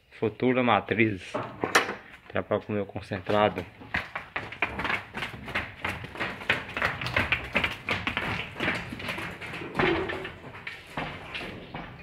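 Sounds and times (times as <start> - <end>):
cattle hooves on hard floor: 1.2 - 12.0.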